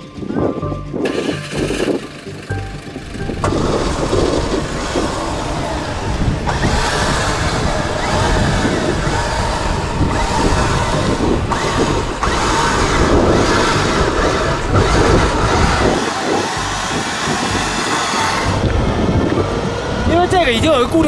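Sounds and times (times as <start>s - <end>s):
vehicle engines running: 0.0s - 21.0s.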